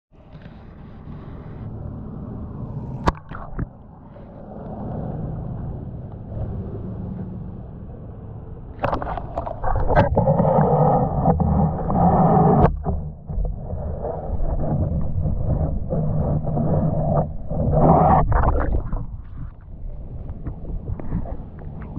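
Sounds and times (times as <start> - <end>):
muffled underwater rumble: 0.1 - 21.9
water sloshing and gurgling: 0.2 - 21.9.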